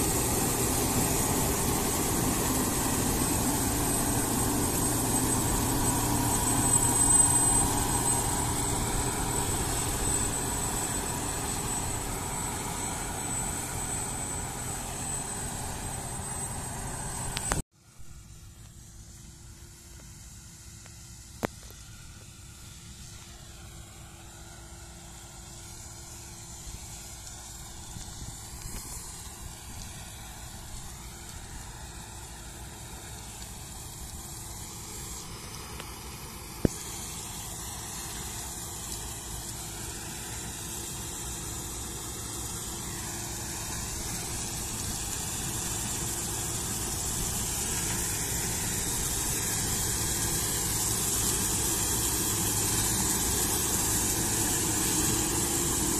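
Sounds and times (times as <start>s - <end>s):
combine harvester running: 0.0s - 55.9s.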